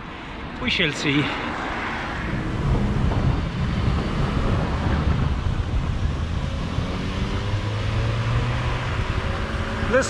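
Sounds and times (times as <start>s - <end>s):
city road traffic: 0.0s - 10.0s
wind rushing over microphone: 0.3s - 10.0s.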